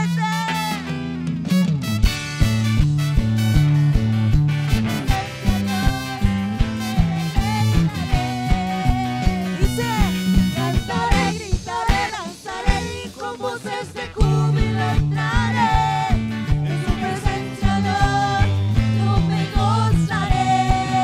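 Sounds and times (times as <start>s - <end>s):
bass: 0.0s - 21.0s
live worship band music: 0.0s - 21.0s
steady drum beat: 0.8s - 21.0s.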